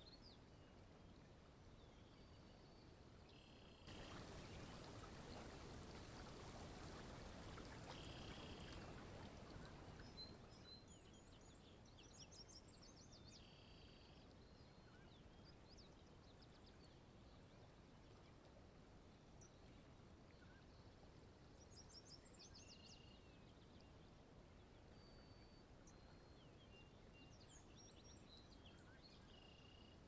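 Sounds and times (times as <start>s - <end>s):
soft steady hiss: 0.0s - 30.0s.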